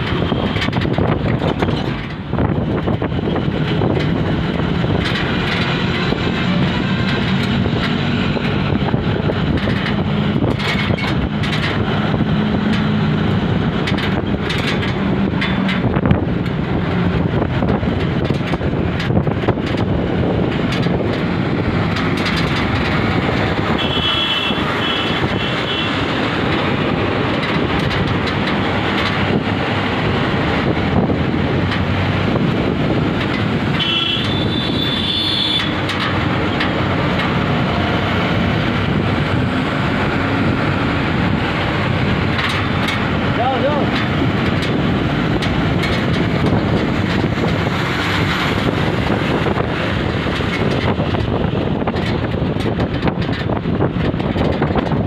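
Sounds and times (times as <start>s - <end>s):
knocks and rattles: 0.0s - 55.0s
truck engine and road noise: 0.0s - 55.0s.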